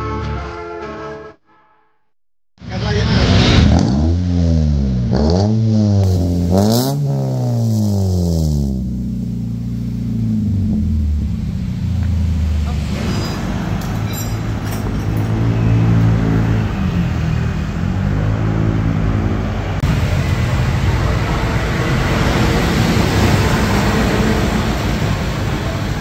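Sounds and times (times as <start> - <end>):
traffic noise rushing: 2.6 - 26.0
vehicles passing: 2.6 - 26.0.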